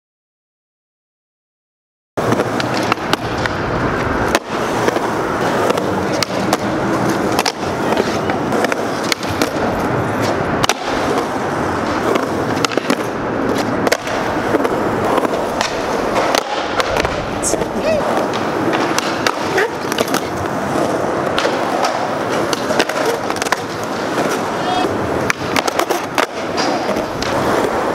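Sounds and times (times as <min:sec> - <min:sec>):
skateboard clacks: 0:02.2 - 0:27.9
skateboard wheels rolling on concrete: 0:02.2 - 0:27.9.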